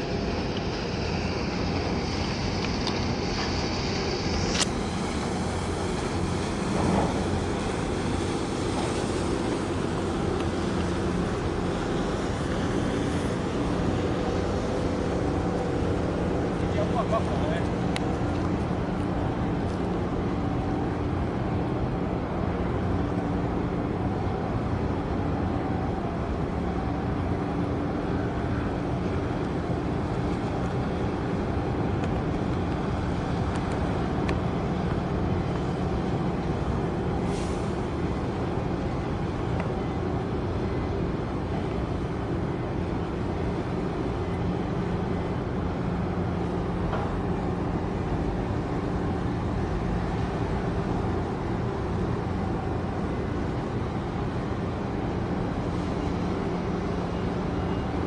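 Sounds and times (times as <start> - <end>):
ship engine drone: 0.0 - 58.0.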